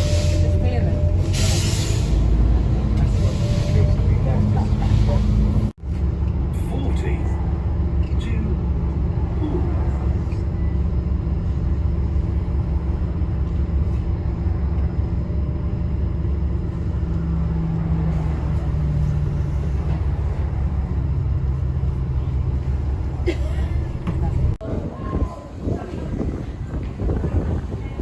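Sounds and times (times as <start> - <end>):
engine rumbling: 0.0 - 28.0.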